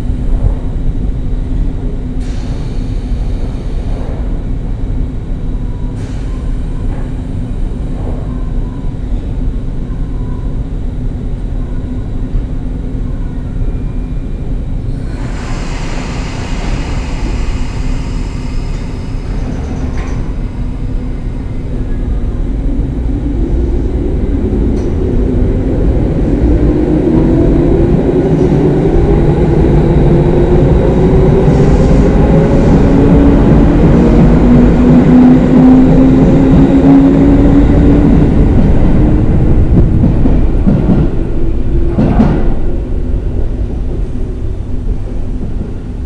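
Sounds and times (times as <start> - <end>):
wheels rumbling on rail: 0.0 - 46.0.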